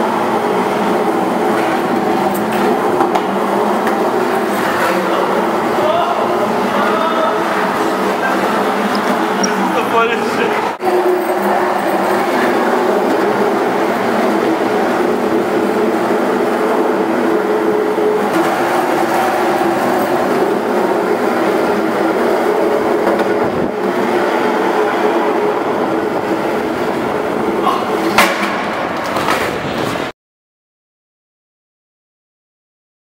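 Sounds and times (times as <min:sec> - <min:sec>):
skateboard wheels rolling on concrete: 0:00.0 - 0:30.1.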